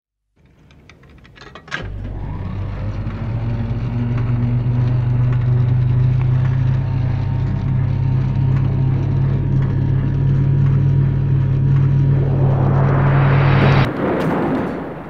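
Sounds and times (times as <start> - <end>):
projector motor humming: 1.8 - 13.9.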